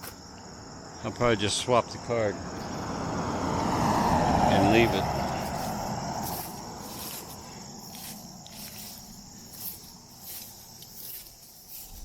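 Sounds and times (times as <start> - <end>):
insects chirping: 0.0 - 12.0
vehicle on road: 0.0 - 12.0.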